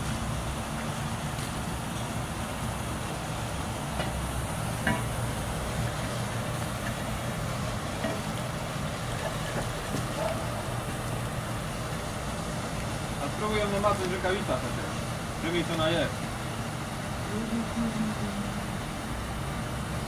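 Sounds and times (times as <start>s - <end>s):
low engine hum: 0.0s - 20.0s
water noise: 0.0s - 20.0s.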